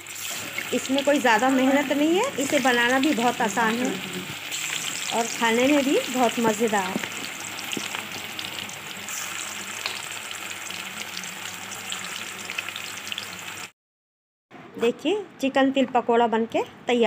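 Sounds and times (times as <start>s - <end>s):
meat deep-frying in hot oil: 0.0s - 13.7s.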